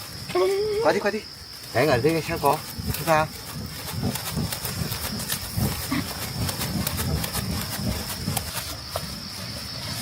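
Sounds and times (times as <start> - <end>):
insects chirring: 0.0 - 10.0
rustling: 0.0 - 10.0.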